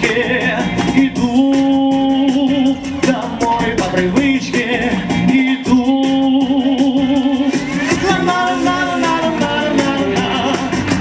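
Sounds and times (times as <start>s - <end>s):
man singing into a microphone: 0.0s - 10.8s
pop backing music with drum beat: 0.0s - 11.0s.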